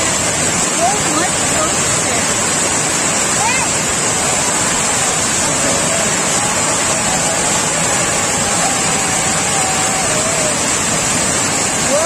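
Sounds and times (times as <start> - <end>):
water rushing over dam: 0.0 - 12.0.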